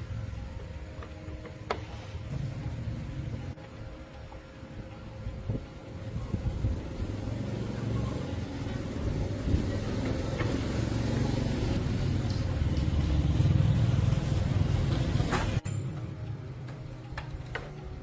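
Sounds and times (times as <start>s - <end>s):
engine rumbling: 0.0s - 18.0s.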